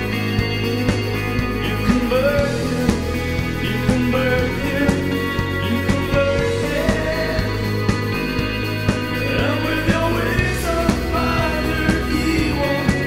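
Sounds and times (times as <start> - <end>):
drums steady beat: 0.0 - 13.0
rock band music: 0.0 - 13.0.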